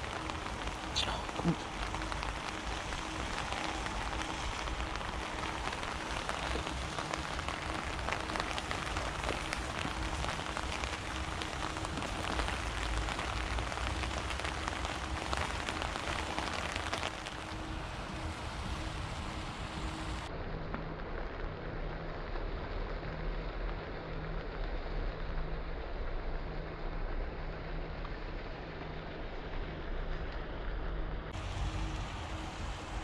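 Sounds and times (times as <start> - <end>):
low rumble: 0.0 - 33.0
rain drops ticking: 0.0 - 33.0.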